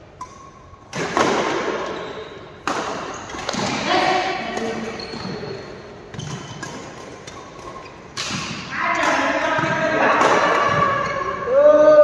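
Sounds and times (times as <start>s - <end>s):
racket hitting shuttlecock: 0.2s - 5.5s, 6.1s - 11.2s.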